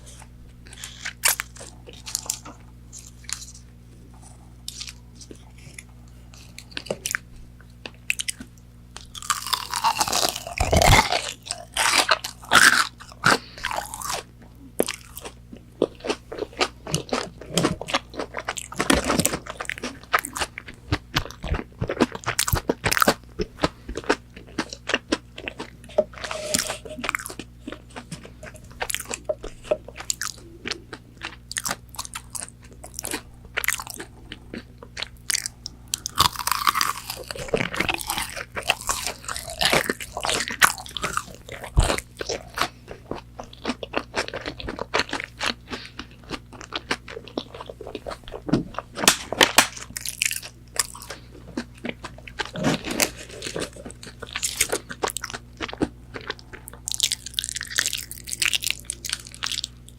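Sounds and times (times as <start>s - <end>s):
crunchy biting and chewing: 0.0s - 59.9s.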